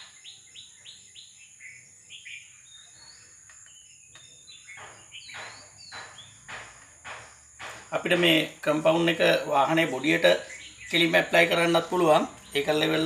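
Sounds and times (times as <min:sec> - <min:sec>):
high insect drone: 0:00.0 - 0:10.8.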